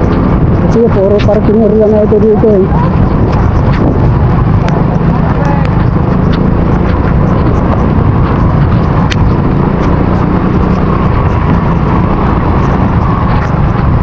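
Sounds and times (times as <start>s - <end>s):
motorcycle engine drone: 0.0s - 14.0s
wind and rain noise: 0.0s - 14.0s.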